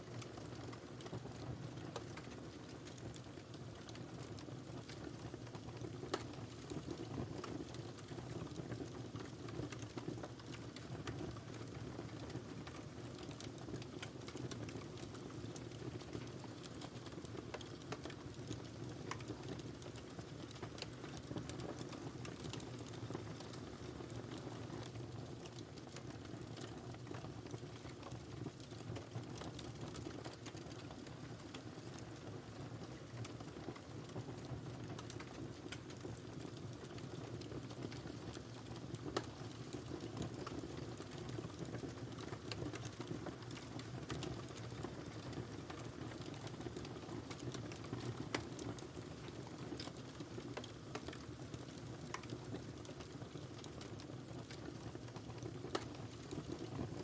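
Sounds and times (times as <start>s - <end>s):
low rumble of burning: 0.0s - 57.0s
wood fire crackling: 0.0s - 57.0s.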